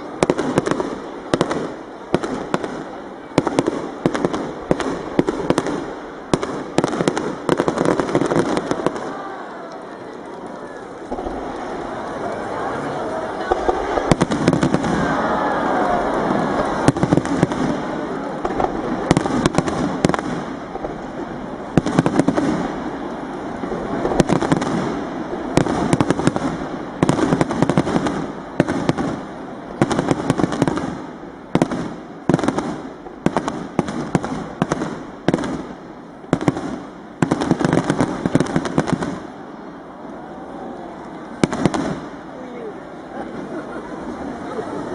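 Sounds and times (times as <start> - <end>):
firework crackling: 0.0 - 44.9.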